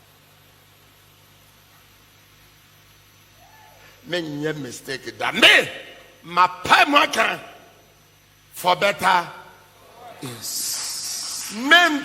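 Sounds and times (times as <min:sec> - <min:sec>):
faint steady hiss: 0:00.0 - 0:12.0
low even hum: 0:00.0 - 0:12.0.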